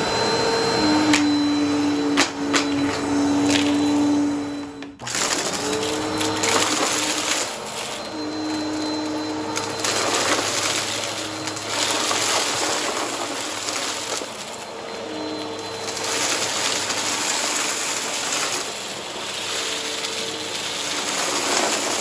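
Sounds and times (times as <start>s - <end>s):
vacuum cleaner sucking debris: 0.0s - 22.0s.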